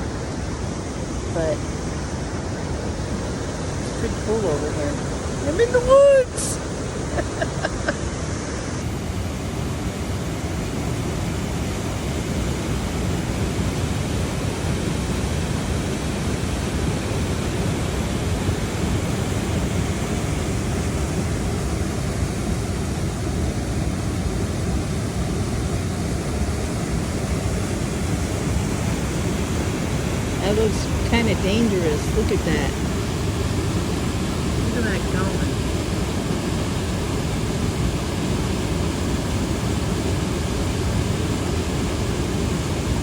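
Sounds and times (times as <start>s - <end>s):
water rushing over waterfall: 0.0s - 43.0s.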